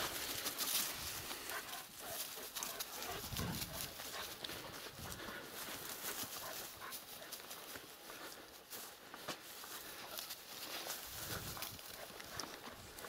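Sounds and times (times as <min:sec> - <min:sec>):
footsteps through dry grass: 0:00.0 - 0:13.0.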